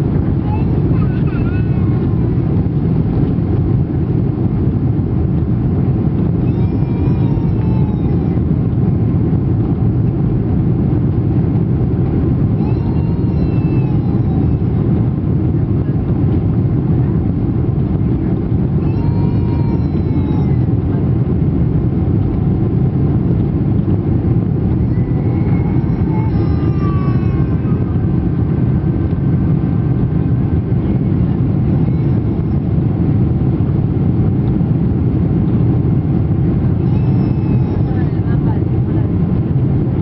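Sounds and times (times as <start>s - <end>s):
rushing air in cabin: 0.0s - 40.0s.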